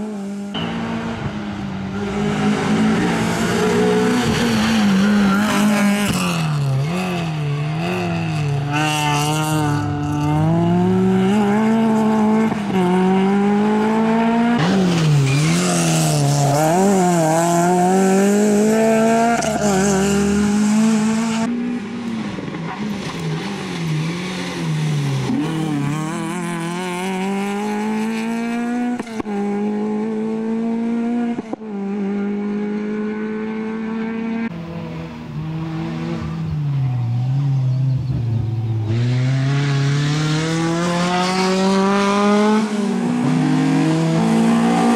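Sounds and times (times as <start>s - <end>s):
rally car engine revving hard: 0.0s - 21.5s, 22.4s - 36.4s, 38.9s - 44.9s.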